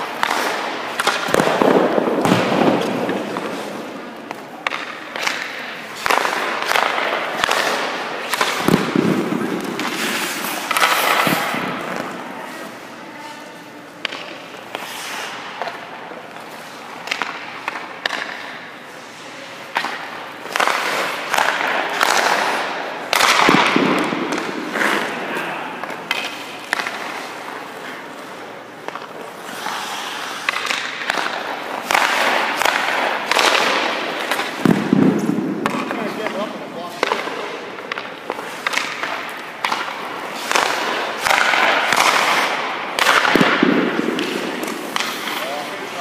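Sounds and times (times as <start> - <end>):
skates scraping ice: 0.0 - 46.0.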